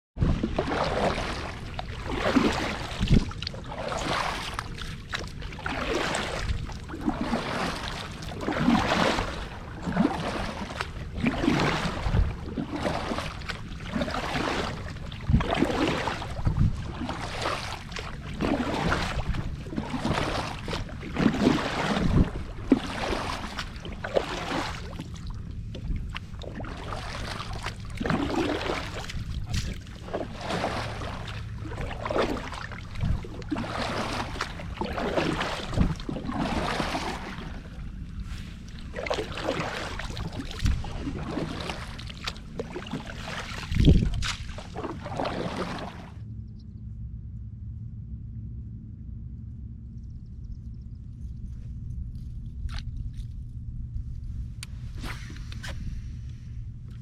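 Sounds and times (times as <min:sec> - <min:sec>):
water splashing against kayak hull: 0:00.2 - 0:46.2.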